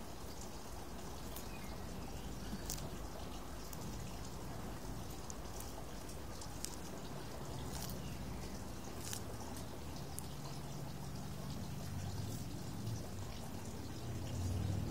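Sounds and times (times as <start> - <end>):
tortoise crunching lettuce: 0.0 - 14.9.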